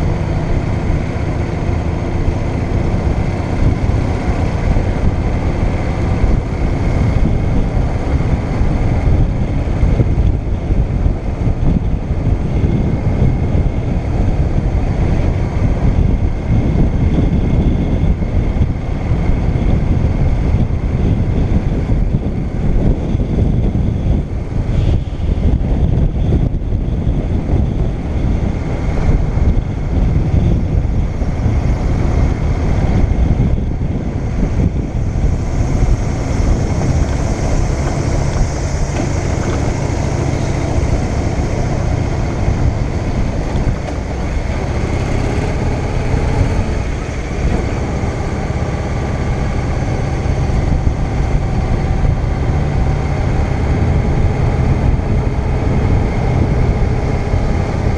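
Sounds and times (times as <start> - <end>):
motorcycle engine running: 0.0 - 57.9
wind rumble on microphone: 0.0 - 57.9.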